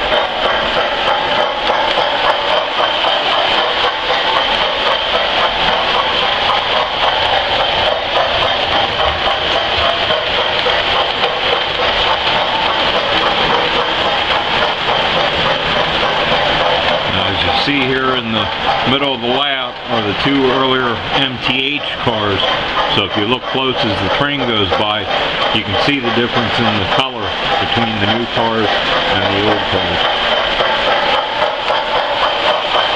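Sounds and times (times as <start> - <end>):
toy train running on track: 0.0 - 32.9.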